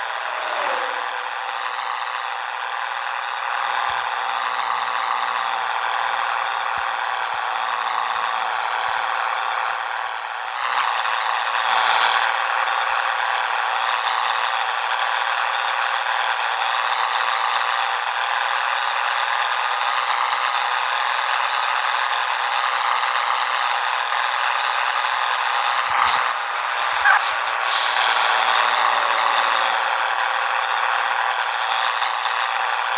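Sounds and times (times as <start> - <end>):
truck diesel engine running: 0.0 - 32.9.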